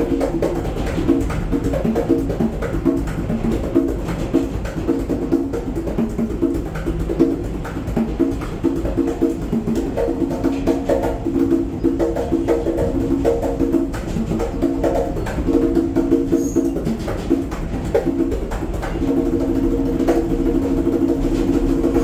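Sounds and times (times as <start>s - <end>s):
conga drums played by hand: 0.0s - 22.0s.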